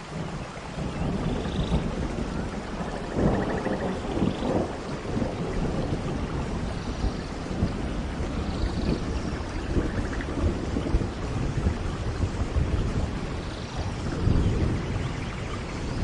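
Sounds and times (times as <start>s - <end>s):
rain falling: 0.0s - 16.0s
rolling thunder rumble: 0.0s - 16.0s.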